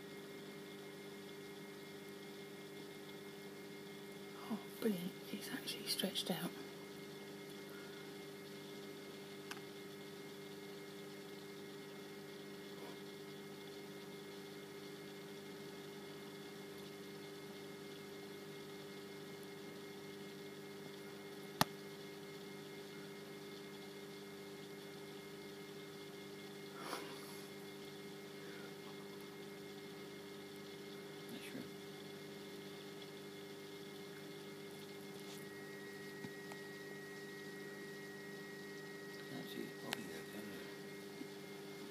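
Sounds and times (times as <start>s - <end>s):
aquarium equipment humming: 0.0s - 41.9s.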